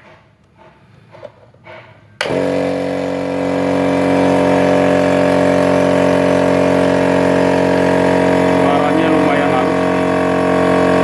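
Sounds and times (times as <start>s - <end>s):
electric air compressor running: 0.6s - 11.0s.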